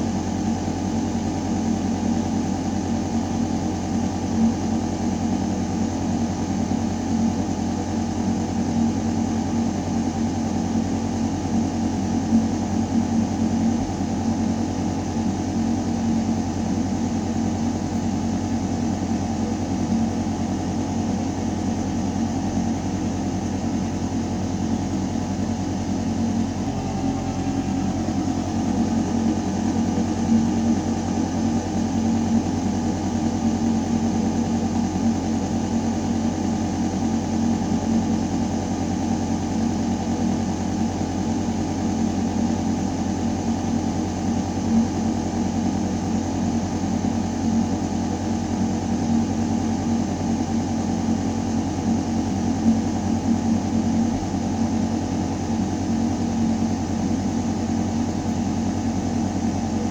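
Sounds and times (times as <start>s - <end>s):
ventilation system hum: 0.0s - 59.9s.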